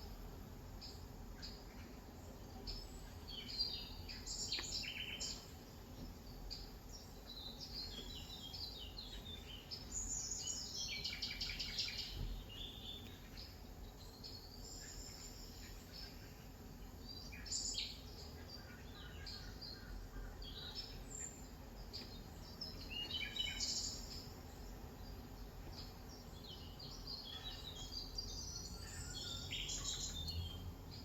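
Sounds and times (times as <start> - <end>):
birds chirping and singing: 2.7 - 31.0.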